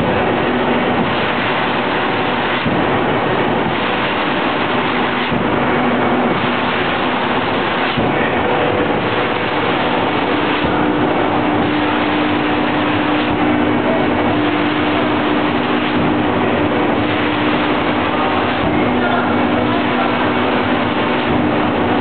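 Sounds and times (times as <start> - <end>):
machine hum: 0.0 - 22.0
veneer lathe rushing noise: 0.0 - 22.0.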